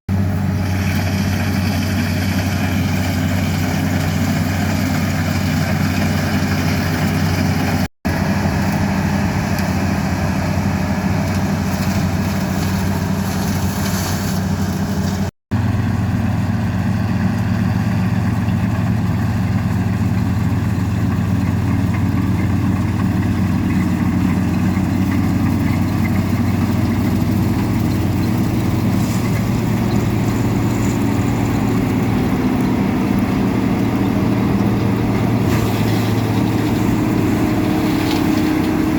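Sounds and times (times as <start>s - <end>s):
machinery engine humming: 0.1s - 38.9s.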